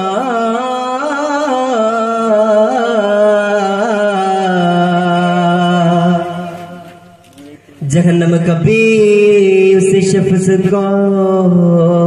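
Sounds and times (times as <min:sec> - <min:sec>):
person singing long ornamented note: 0:00.0 - 0:07.2, 0:07.9 - 0:12.0.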